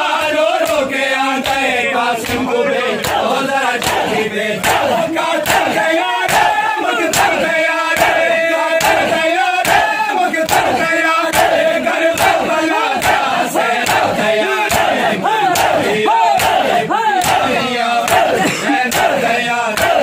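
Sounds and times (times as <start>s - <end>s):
men chanting in unison: 0.0s - 20.0s
hands slapping chests: 0.1s - 7.4s, 8.0s - 20.0s.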